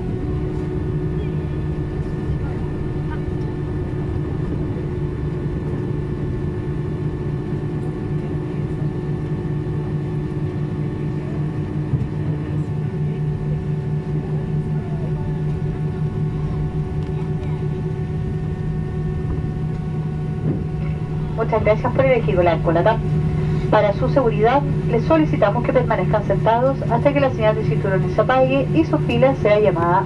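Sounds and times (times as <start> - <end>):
jet engines idling in cabin: 0.0 - 30.0.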